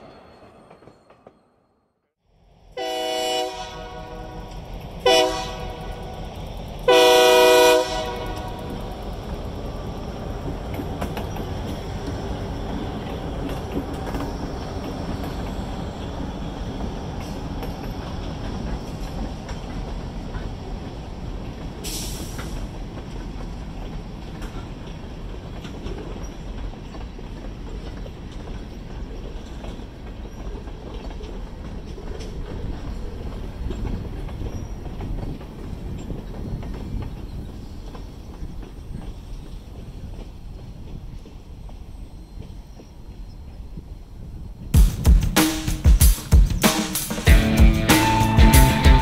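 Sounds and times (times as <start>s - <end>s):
diesel locomotive passing: 2.3s - 44.7s, 47.1s - 49.0s
train cars rumbling: 2.5s - 49.0s
train wheels clattering on rails: 4.3s - 49.0s.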